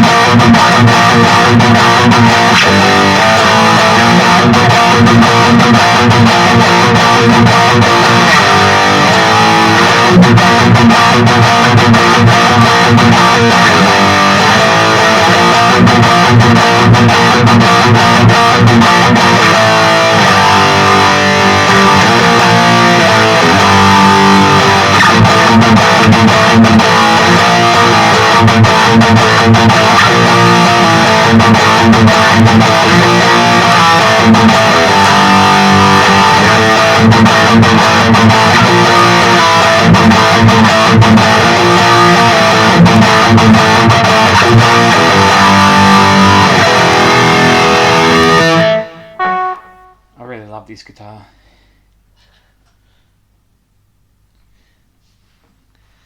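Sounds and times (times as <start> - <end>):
distorted electric guitar riffs: 0.0 - 50.8.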